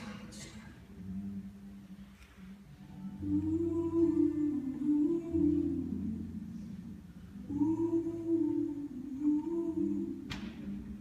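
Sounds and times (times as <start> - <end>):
wordless singing: 0.0 - 11.0.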